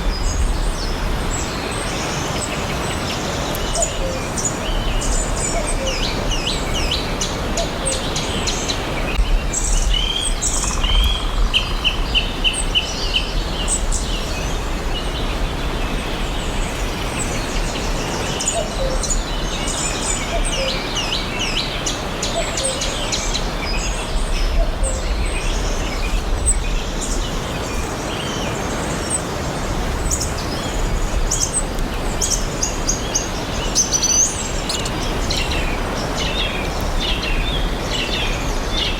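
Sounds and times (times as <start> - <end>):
forest birds chirping and singing: 0.0 - 38.9.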